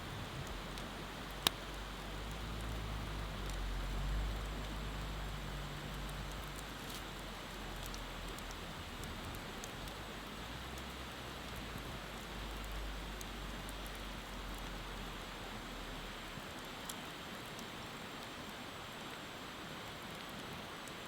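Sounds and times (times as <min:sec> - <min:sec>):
bonfire crackling and hissing: 0:00.0 - 0:21.0.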